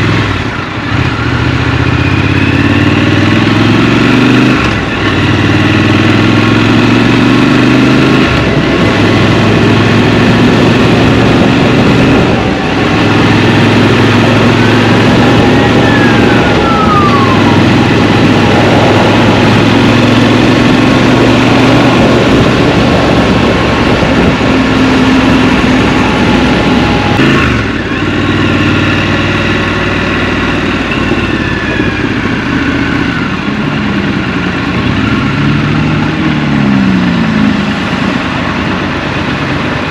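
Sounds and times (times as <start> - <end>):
city traffic: 0.0 - 39.9
motorcycle engine running: 0.0 - 39.9.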